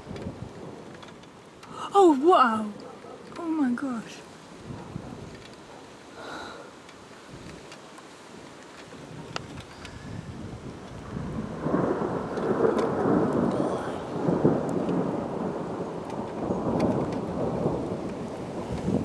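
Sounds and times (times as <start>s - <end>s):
thunder rumbling: 0.0s - 6.6s, 8.9s - 19.0s.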